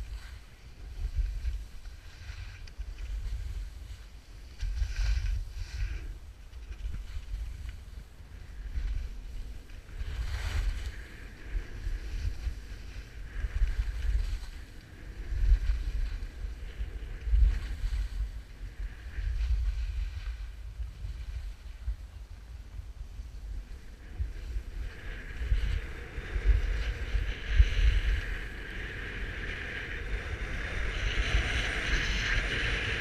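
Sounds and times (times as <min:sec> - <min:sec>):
skis scraping over packed snow: 0:00.0 - 0:33.0
wind buffeting microphone: 0:00.0 - 0:33.0.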